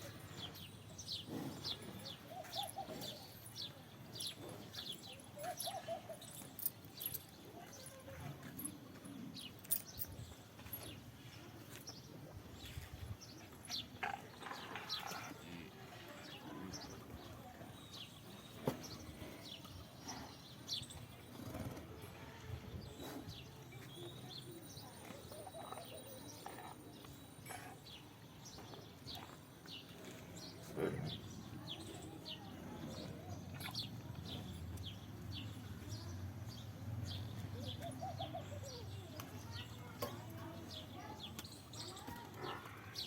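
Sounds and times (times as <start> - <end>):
murmur of distant voices: 0.0 - 43.0.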